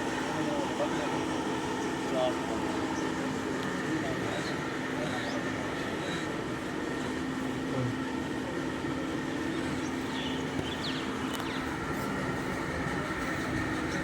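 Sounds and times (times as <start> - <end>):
mechanical hum with low tone: 0.0 - 14.0.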